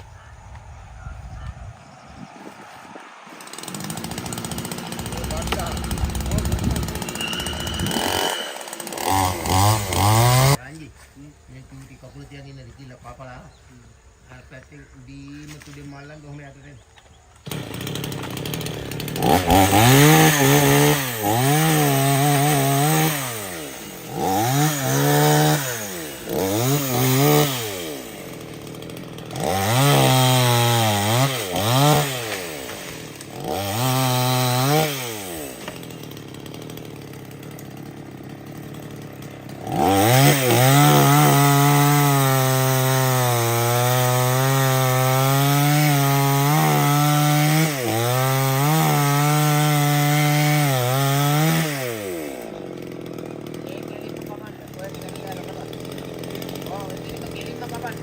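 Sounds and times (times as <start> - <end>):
chainsaw cutting wood: 2.8 - 10.6, 17.3 - 58.0
chainsaw revving: 3.2 - 10.6, 17.4 - 58.0.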